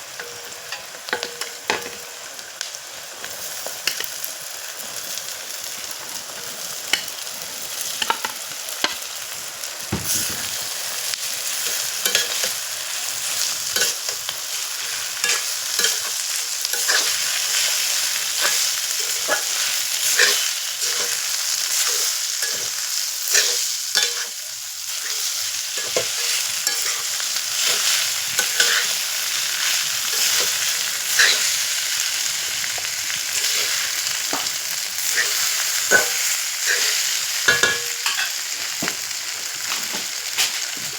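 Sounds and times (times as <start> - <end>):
rice sizzling in a pan: 0.0 - 40.9.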